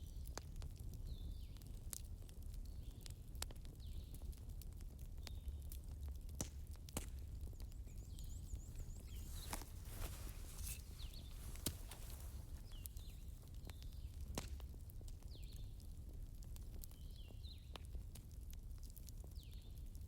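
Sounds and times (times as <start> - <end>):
wood fire crackling and popping: 0.2 - 20.0.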